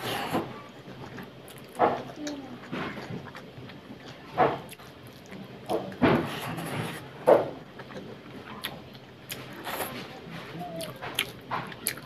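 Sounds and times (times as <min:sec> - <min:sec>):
wet chewing: 0:00.8 - 0:12.0.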